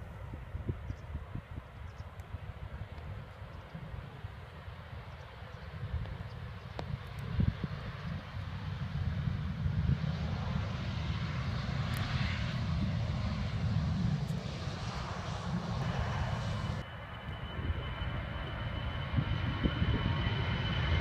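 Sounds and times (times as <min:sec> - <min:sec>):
airliner engines passing: 0:00.0 - 0:21.0.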